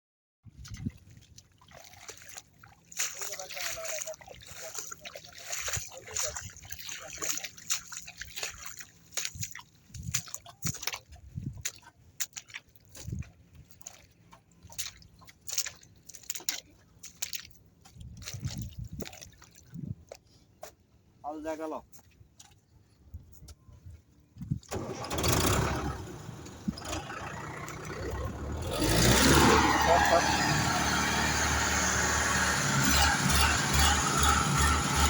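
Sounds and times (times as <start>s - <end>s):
water and mud splashing: 0.4s - 20.4s, 24.6s - 35.0s.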